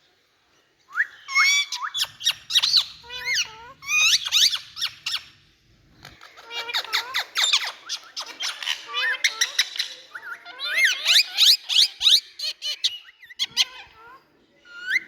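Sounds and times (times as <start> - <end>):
parakeet squeaky chirps: 1.2 - 5.4, 6.1 - 15.0.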